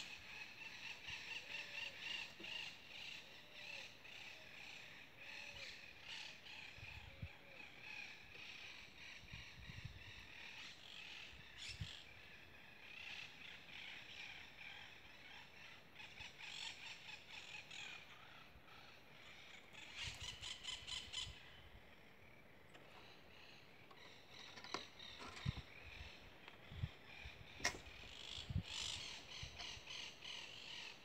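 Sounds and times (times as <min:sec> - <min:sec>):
faint bird calls: 0:00.0 - 0:31.0.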